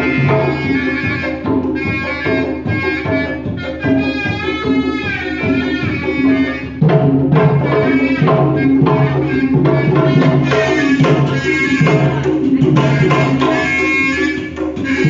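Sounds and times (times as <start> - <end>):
hand drums beating: 0.0 - 15.0
reedy shawm melody: 0.0 - 15.0.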